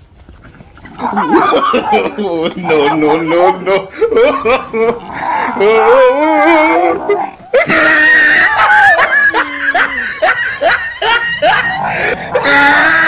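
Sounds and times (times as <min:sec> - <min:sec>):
person laughing: 0:01.0 - 0:13.0
person screaming: 0:01.2 - 0:10.4, 0:11.0 - 0:13.0.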